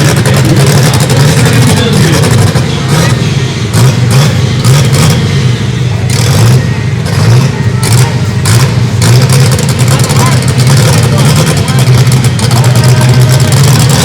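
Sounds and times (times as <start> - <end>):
drag car engine revving: 0.0 - 14.0.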